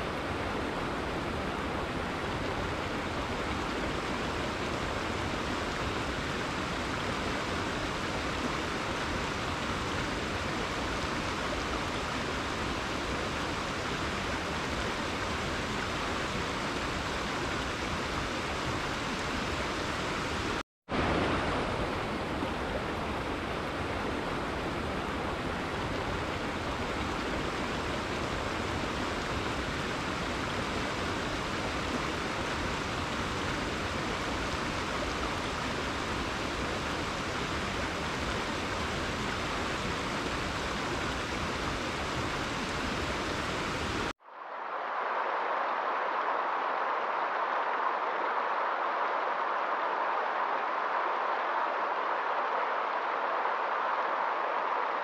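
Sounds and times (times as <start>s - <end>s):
waves washing on shore: 0.0s - 44.2s.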